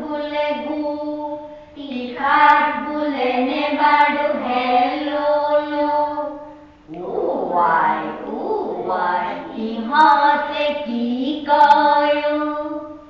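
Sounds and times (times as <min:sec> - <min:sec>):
children chanting a rhyme: 0:00.0 - 0:13.0.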